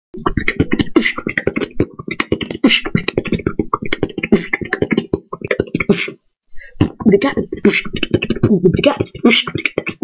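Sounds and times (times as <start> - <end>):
woman beatboxing: 0.2 - 10.0.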